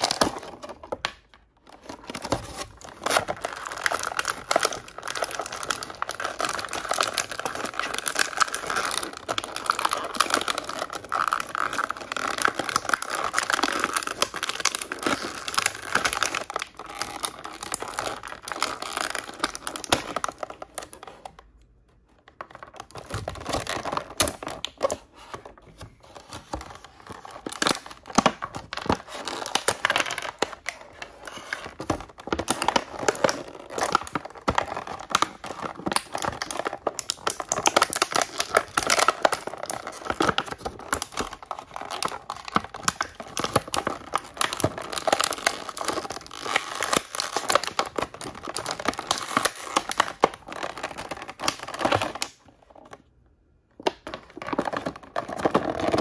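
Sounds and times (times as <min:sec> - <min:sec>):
packaging crinkling and tearing: 0:00.0 - 0:53.1, 0:53.8 - 0:56.0.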